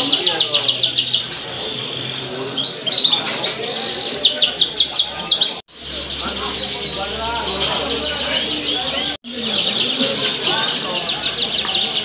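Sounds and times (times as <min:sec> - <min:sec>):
canary singing trills: 0:00.0 - 0:12.0
soft bird twittering: 0:00.0 - 0:12.0.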